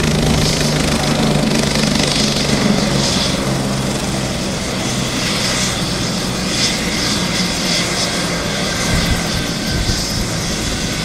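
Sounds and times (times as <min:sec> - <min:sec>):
helicopter engine and rotor running: 0:00.0 - 0:11.0.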